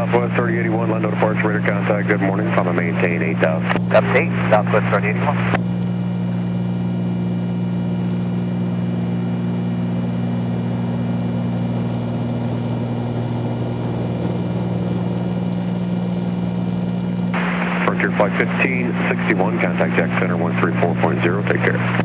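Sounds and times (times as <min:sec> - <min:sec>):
propeller plane cabin drone: 0:00.0 - 0:22.0.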